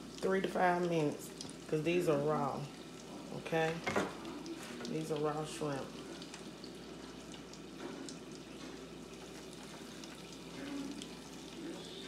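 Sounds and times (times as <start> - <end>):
shrimp deep-frying in oil: 0.0 - 12.0.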